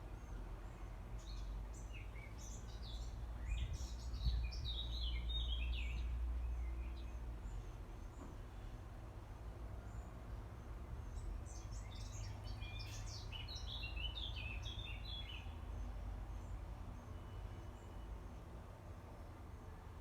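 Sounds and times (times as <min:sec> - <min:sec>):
songbird singing: 0:00.0 - 0:09.0, 0:09.8 - 0:18.4.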